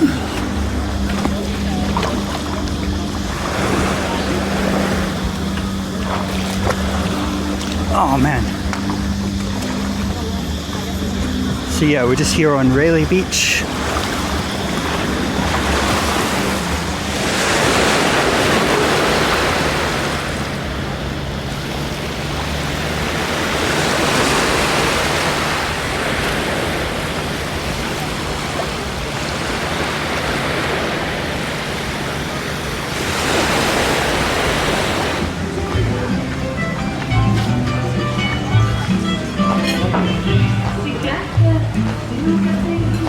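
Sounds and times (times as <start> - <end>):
low steady drone: 0.0 - 43.0
sea waves washing onto beach: 0.0 - 43.0.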